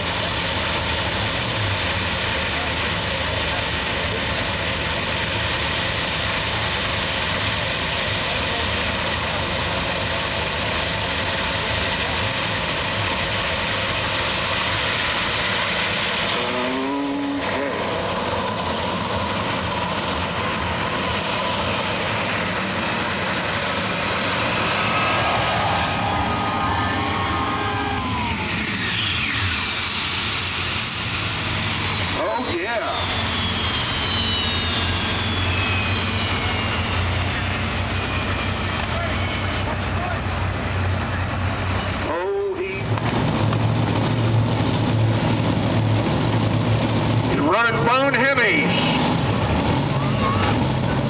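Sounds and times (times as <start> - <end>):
high engine whine: 0.0 - 51.0
tractor engine roaring under load: 0.0 - 51.0.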